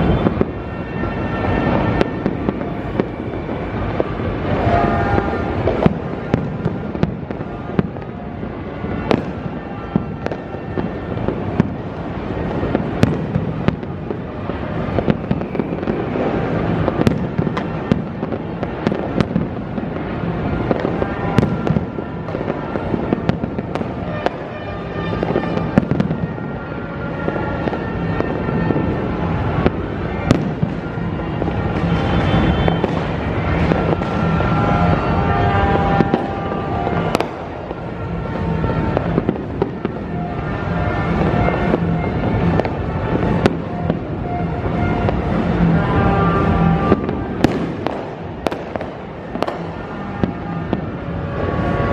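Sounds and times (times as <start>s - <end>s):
firecracker bangs and cracks: 0.0s - 51.9s
fireworks exploding: 0.0s - 51.9s.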